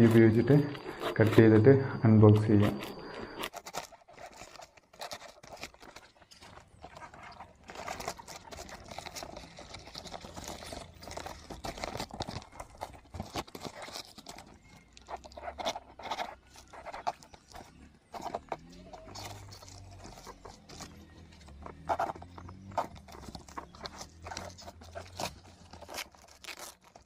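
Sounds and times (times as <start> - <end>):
cardboard and plastic crackling: 0.0 - 27.0
knife cutting packing tape: 2.5 - 27.0.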